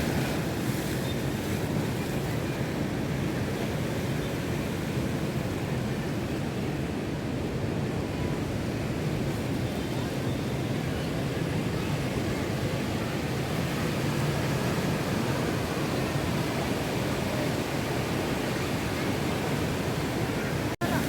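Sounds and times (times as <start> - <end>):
rough sea surf: 0.0 - 21.0
wind: 0.0 - 21.0.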